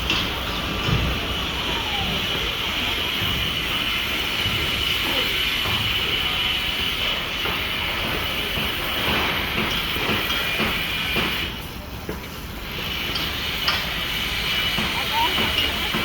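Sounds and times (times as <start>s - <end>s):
construction site background noise: 0.0s - 16.0s.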